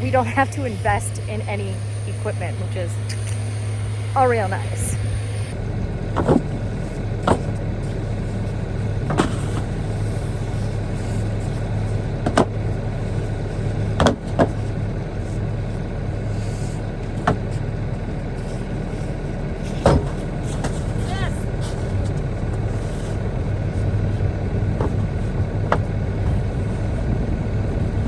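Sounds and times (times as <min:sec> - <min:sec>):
tires landing with thuds: 0:00.0 - 0:28.0
vehicle engine running: 0:00.0 - 0:28.0.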